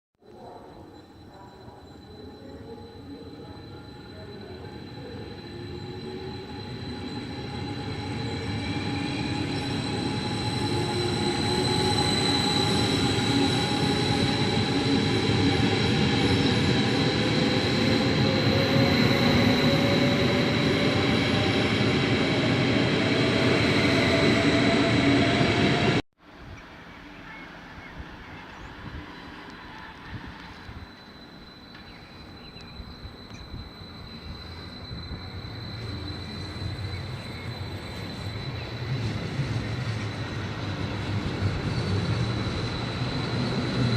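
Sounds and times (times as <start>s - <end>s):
train running: 0.3s - 43.9s
high-pitched squeal: 0.6s - 26.0s, 28.9s - 43.9s.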